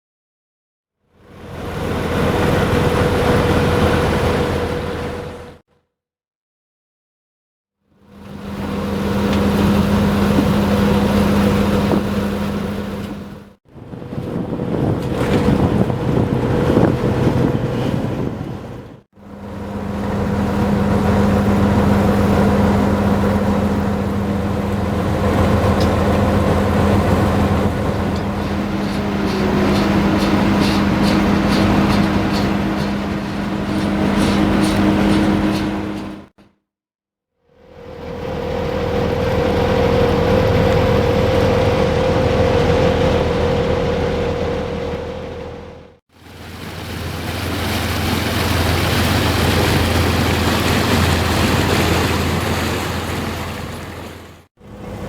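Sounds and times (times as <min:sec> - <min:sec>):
large engine humming: 0:01.2 - 0:05.6, 0:08.0 - 0:36.4, 0:37.5 - 0:55.0.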